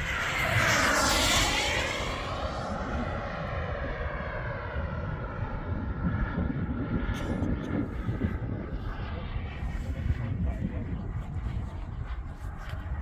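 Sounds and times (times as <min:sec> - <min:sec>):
jet turbine whine: 0:00.0 - 0:13.0.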